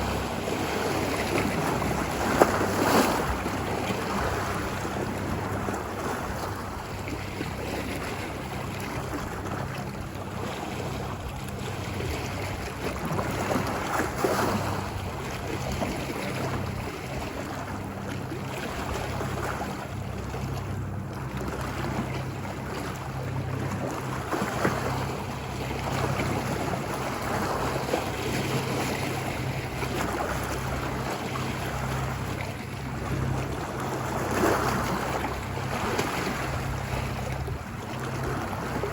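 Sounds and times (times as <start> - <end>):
ocean waves washing onto beach: 0.0 - 38.9
steady low rumble: 0.0 - 38.9.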